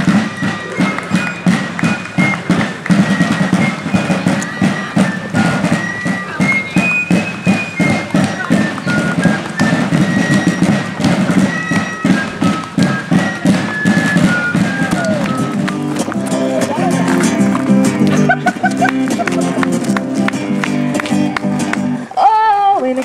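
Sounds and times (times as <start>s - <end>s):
shrill fife melody: 0.0s - 22.1s
drums beating steady rhythm: 0.0s - 23.0s.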